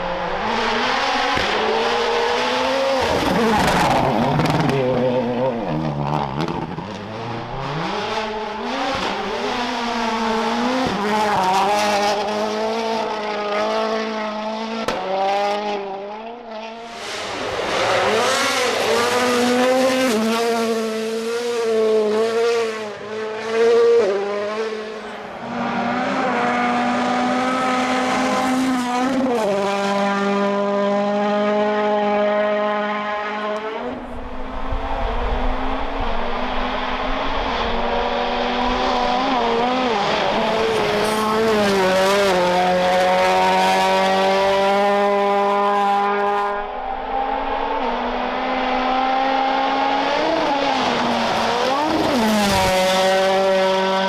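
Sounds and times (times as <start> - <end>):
rally car engine at full throttle: 0.0 - 54.0.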